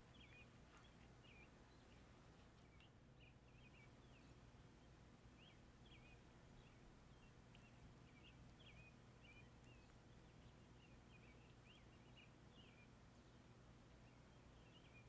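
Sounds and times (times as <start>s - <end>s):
faint bird chirps: 0.0s - 15.0s
low steady hum: 0.0s - 15.0s.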